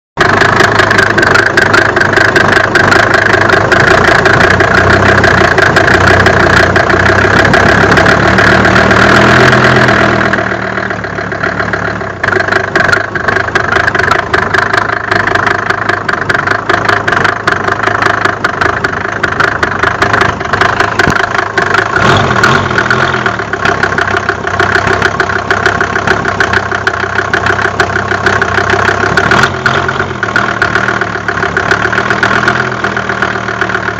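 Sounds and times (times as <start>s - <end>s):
diesel engine running: 0.2s - 33.9s
rapid engine knocking: 0.2s - 33.9s.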